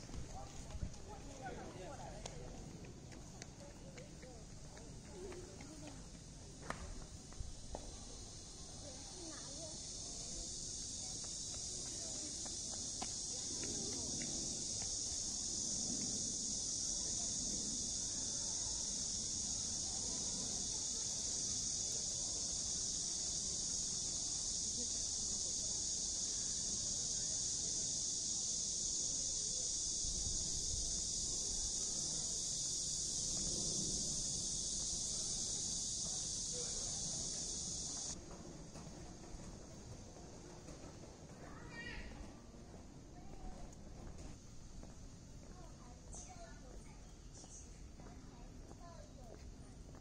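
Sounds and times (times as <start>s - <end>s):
insect chorus: 0.0s - 50.0s.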